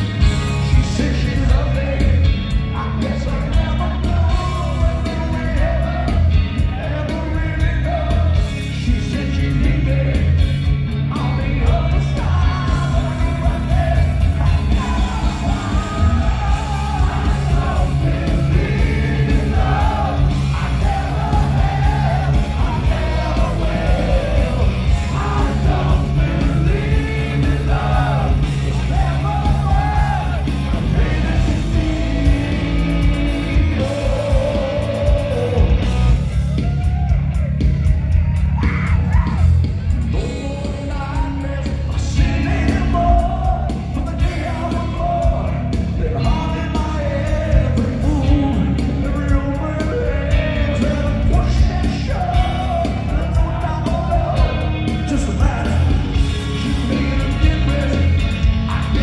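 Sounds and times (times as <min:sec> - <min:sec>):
man singing lead: 0:00.0 - 0:36.3, 0:38.6 - 0:59.0
hard rock band playing: 0:00.0 - 0:59.0.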